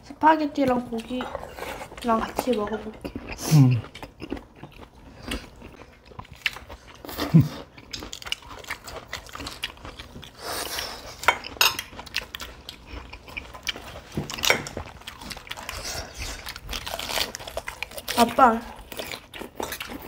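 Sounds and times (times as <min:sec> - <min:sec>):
chewing and crunching: 0:00.7 - 0:20.0.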